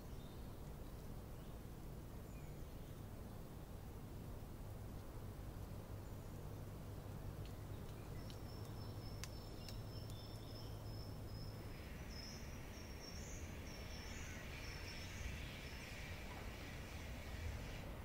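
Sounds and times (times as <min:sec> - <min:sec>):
soft hiss: 0:00.0 - 0:18.0.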